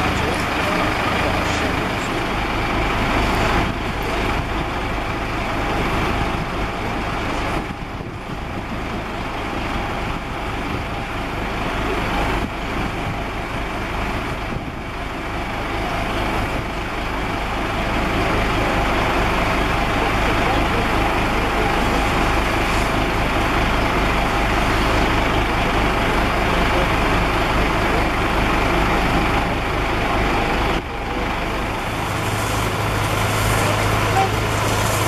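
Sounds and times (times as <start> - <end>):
diesel engine drone: 0.0 - 35.0
water jetting from hoses: 0.0 - 35.0.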